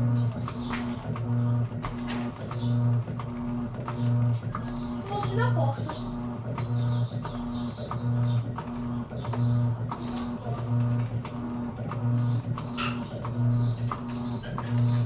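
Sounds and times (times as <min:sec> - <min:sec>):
washing machine agitating: 0:00.0 - 0:15.0.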